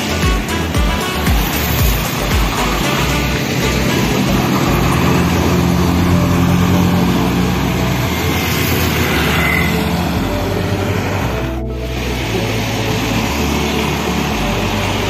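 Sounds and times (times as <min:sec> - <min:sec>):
motorcycles and scooters passing: 0:00.0 - 0:15.0
tyre and road noise: 0:00.0 - 0:15.0.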